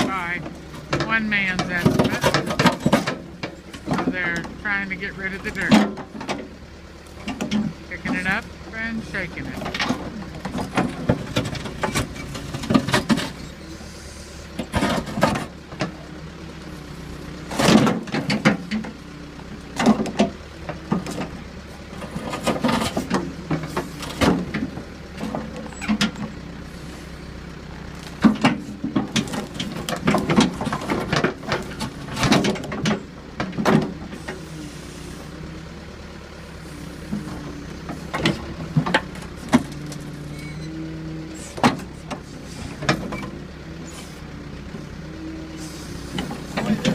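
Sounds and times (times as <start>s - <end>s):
backhoe diesel engine: 0.0s - 46.9s.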